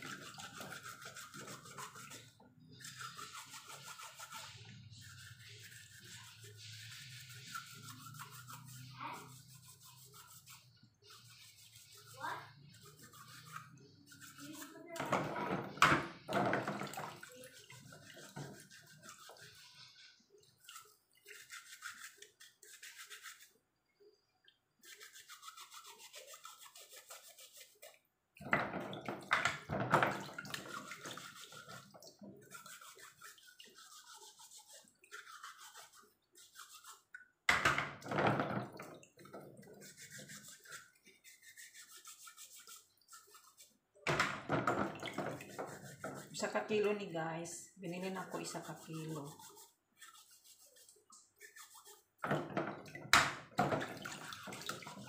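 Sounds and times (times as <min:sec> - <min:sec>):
scouring pad scrubbing shells: 0:00.0 - 0:23.8, 0:24.6 - 0:55.0.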